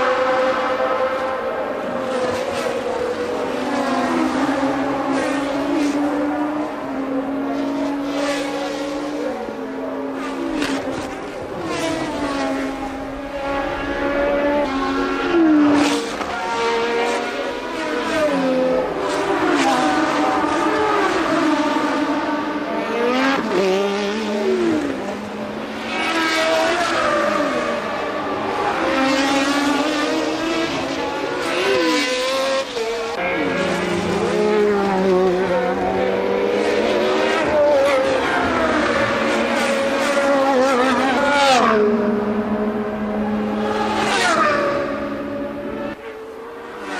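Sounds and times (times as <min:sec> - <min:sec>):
race car engine: 0:00.0 - 0:46.9
race cars surging past: 0:00.0 - 0:46.9.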